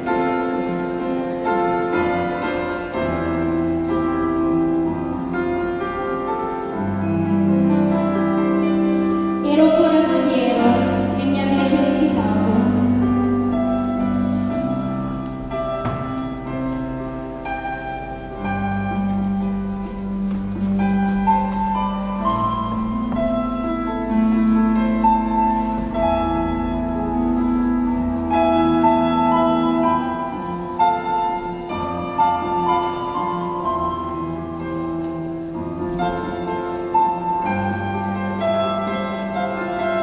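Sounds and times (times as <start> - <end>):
slow keyboard music: 0.0 - 40.0.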